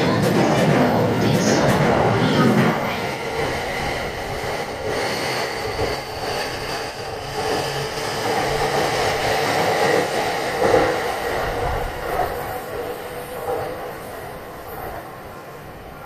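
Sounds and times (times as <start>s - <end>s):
electric train running past: 0.0s - 16.0s.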